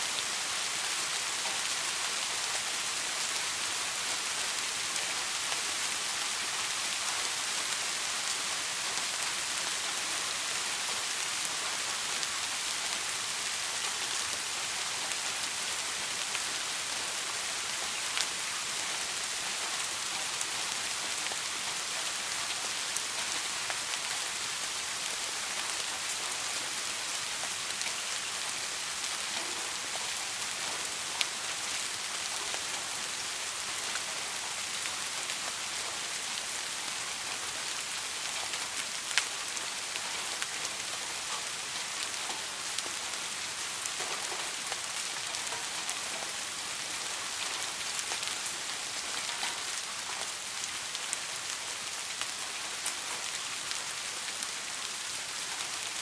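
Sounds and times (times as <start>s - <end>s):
soft rain: 0.0s - 56.0s.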